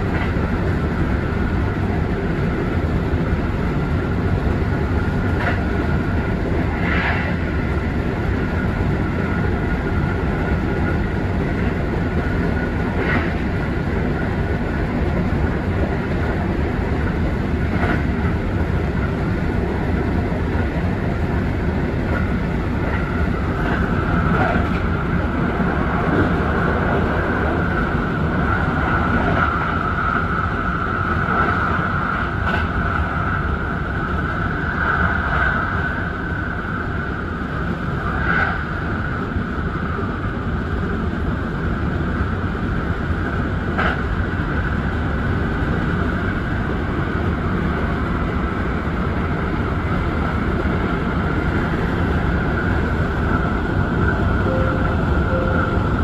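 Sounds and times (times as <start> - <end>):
electric train rumbling on rails: 0.0 - 56.0
high train whine: 0.0 - 56.0.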